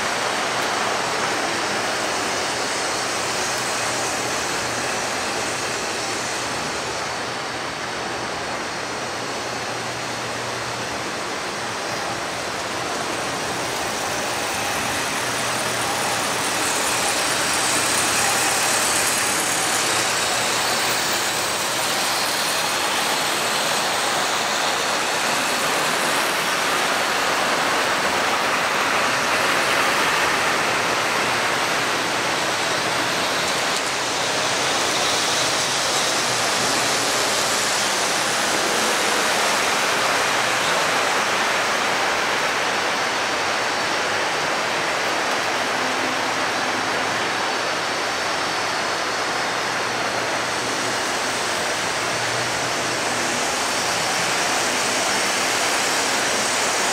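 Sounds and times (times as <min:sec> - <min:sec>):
model trains rolling on track: 0:00.0 - 0:56.9.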